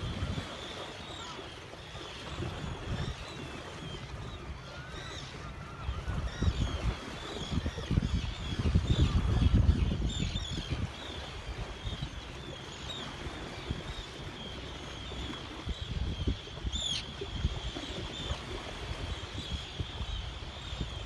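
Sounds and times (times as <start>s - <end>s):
seabirds calling: 0.0s - 21.0s
wind rumble on microphone: 0.0s - 21.0s.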